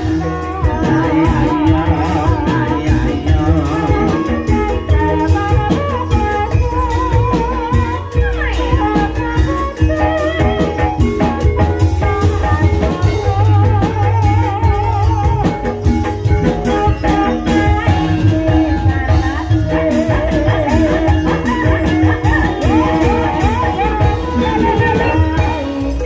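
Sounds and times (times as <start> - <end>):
drum strokes: 0.0 - 26.0
gamelan music: 0.0 - 26.0
melodic line with vibrato: 0.0 - 26.0
metallophone tones: 0.0 - 26.0.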